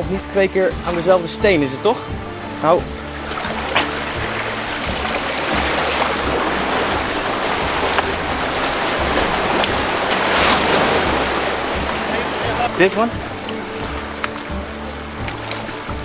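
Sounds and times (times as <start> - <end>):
sea surf washing in: 2.2 - 16.0.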